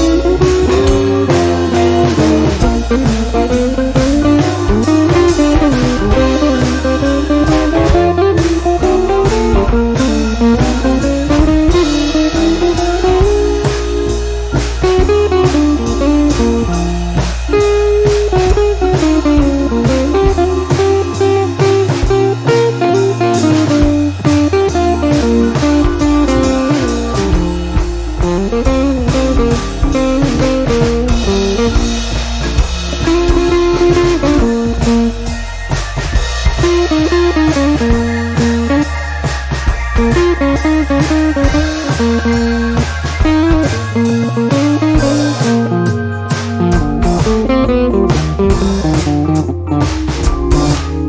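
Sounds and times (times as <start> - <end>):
guitar-led background music: 0.0 - 51.0
low bass: 0.0 - 51.0.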